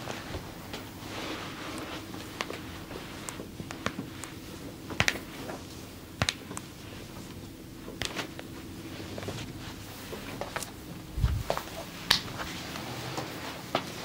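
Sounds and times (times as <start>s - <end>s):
hands massaging body: 0.0s - 14.0s
low steady hum: 0.0s - 14.0s.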